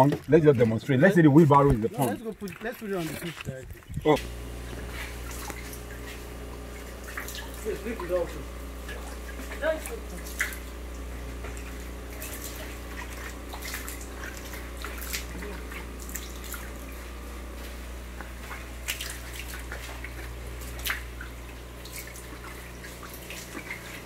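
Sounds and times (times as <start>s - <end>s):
liquid dripping and splashing into water: 1.5s - 24.0s
steady low hum: 3.8s - 24.0s.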